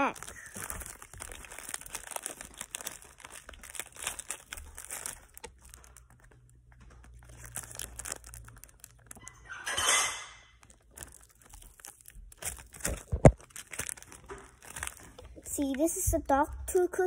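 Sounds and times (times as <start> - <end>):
paper bag crinkling: 0.0 - 9.4, 10.6 - 16.1.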